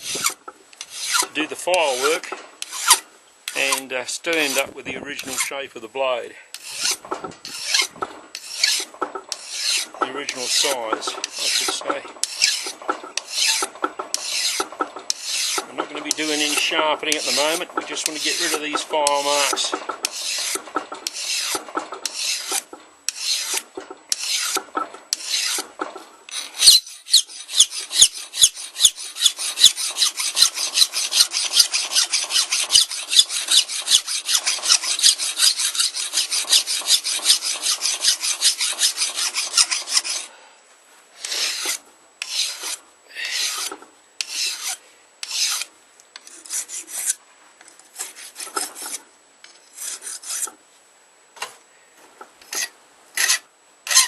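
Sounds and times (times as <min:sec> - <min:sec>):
file rasping on metal blade: 0:00.0 - 0:05.5, 0:06.6 - 0:25.7, 0:26.3 - 0:40.3, 0:41.2 - 0:47.2, 0:48.0 - 0:49.0, 0:49.6 - 0:50.6, 0:52.5 - 0:54.0.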